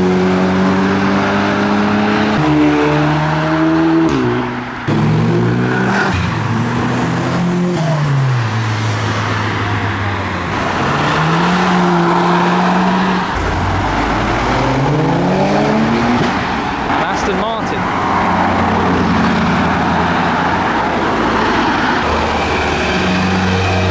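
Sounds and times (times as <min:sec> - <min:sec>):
car engines driving past: 0:00.0 - 0:23.9
engine revving up: 0:00.0 - 0:23.9.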